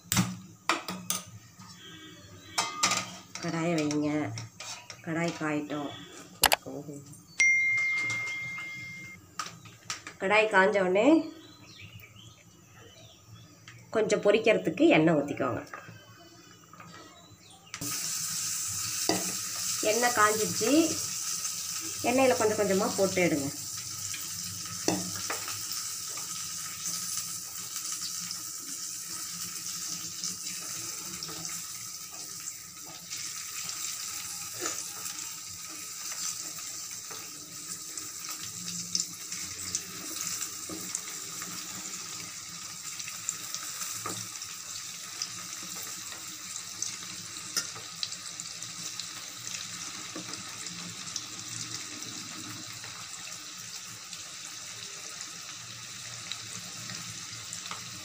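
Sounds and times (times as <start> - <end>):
oil sizzling in a pan: 0.0 - 10.5, 15.9 - 58.0.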